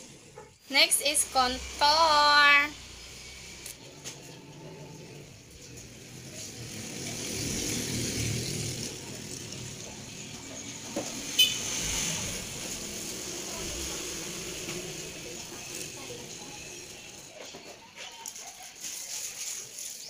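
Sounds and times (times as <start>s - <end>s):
motor vehicle passing: 0.0s - 17.4s.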